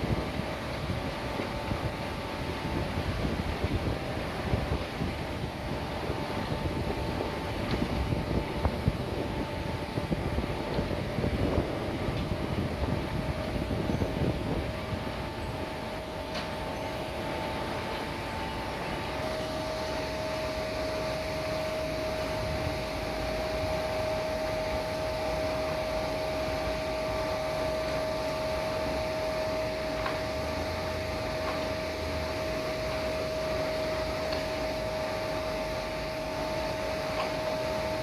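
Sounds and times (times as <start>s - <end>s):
motor running with whine: 0.0s - 38.0s.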